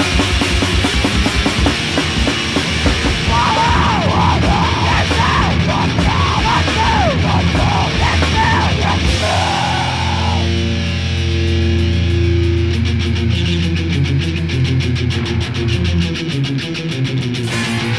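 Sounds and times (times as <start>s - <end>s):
distorted rock music: 0.0s - 17.9s.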